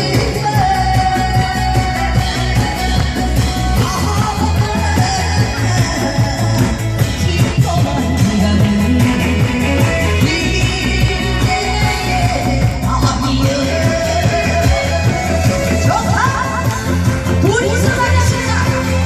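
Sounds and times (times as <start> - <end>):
loud music with pulsing bass: 0.0 - 19.0
person singing: 0.0 - 19.0.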